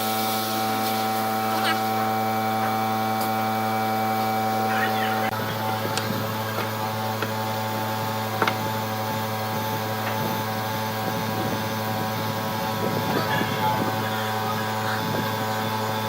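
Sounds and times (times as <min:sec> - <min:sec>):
electric motor hum: 0:00.0 - 0:16.0.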